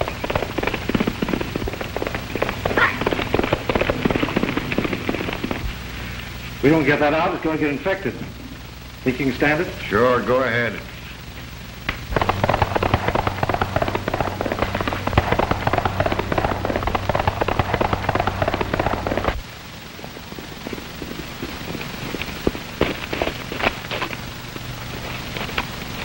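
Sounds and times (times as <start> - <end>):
horse hooves galloping: 0.0 - 7.9, 9.5 - 26.0
low hum: 0.0 - 26.0.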